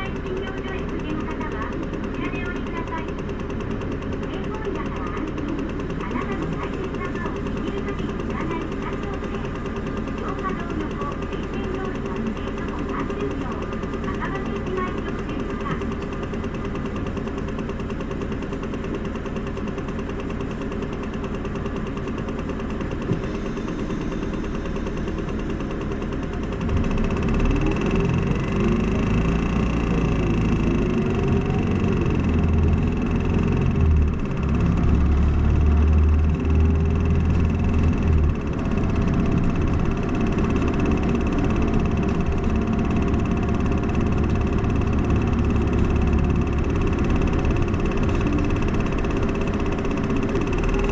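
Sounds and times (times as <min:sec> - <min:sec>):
bus diesel engine: 0:00.0 - 0:50.9.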